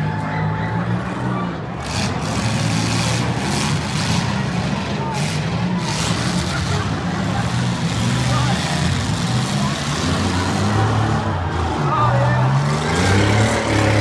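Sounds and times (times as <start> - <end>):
car engines droning loudly: 0.0 - 14.0.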